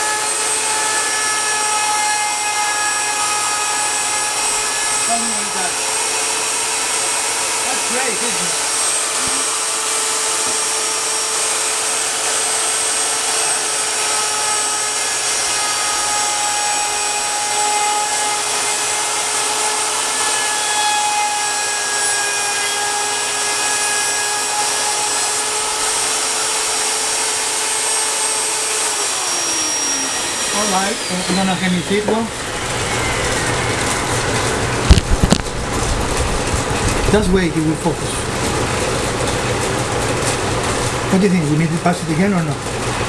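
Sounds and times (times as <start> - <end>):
power tool cutting wood: 0.0 - 43.0.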